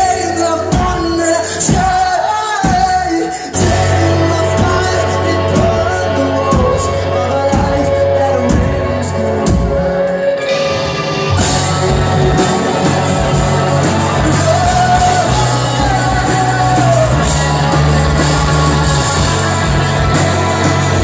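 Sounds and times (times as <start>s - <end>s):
lead vocal singing: 0.0s - 21.0s
live rock band playing: 0.0s - 21.0s.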